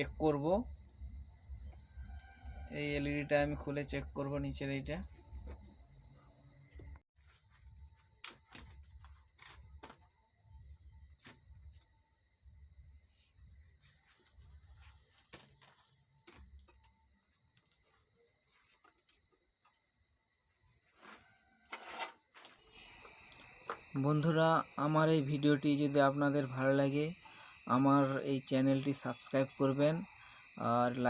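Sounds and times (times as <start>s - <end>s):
insect trill: 0.0s - 31.0s.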